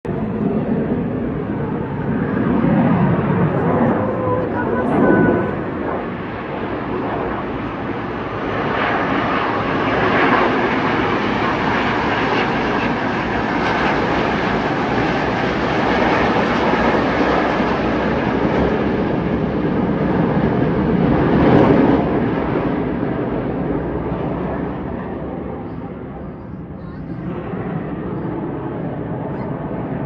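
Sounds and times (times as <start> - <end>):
jet aircraft roar: 0.1 - 30.0.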